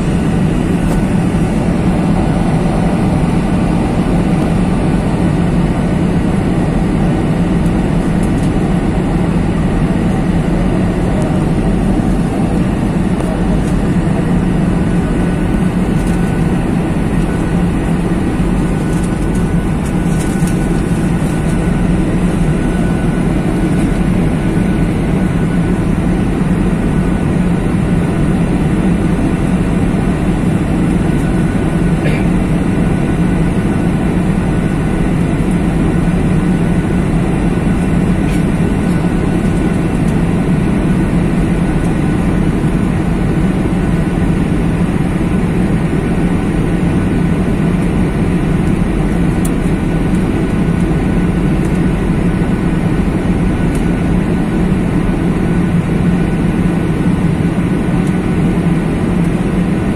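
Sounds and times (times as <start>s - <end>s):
jet airliner cabin drone: 0.0s - 59.9s.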